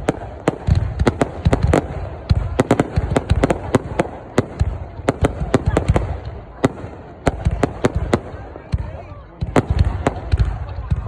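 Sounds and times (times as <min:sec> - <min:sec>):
fireworks bangs and cracks: 0:00.0 - 0:11.0.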